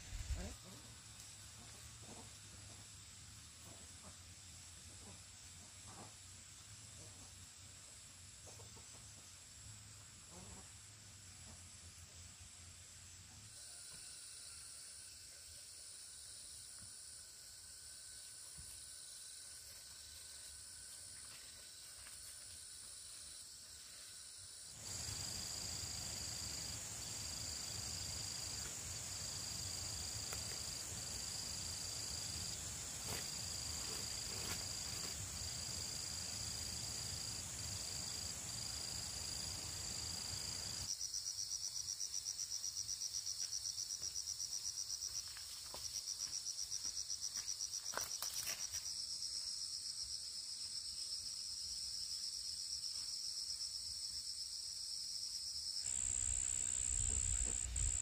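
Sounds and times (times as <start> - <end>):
insects trilling: 0.0 - 58.0
pulsing insect chirp: 0.0 - 58.0.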